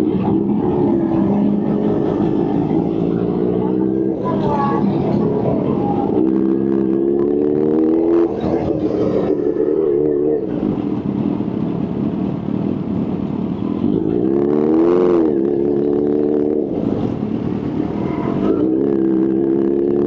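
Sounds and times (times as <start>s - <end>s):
motorcycle engine revving: 0.0s - 11.5s, 13.8s - 20.0s.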